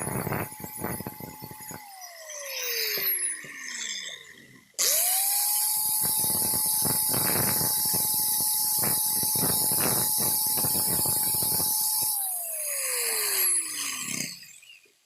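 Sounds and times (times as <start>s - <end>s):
electric power tool whine: 0.0s - 14.9s.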